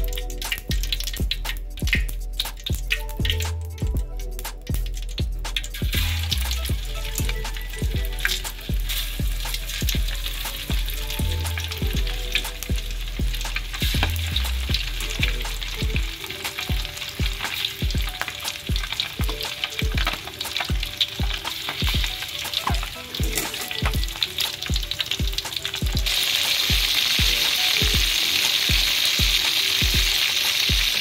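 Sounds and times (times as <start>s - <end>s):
chicken frying in hot oil: 0.0s - 31.0s.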